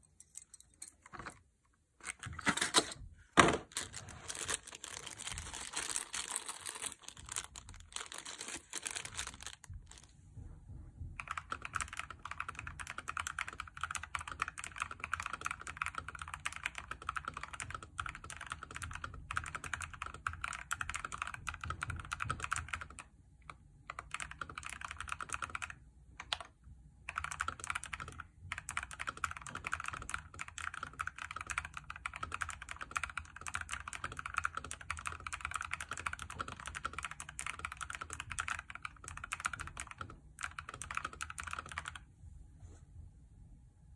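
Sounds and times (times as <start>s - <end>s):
mechanical keyboard typing: 2.0s - 10.1s, 11.2s - 42.0s.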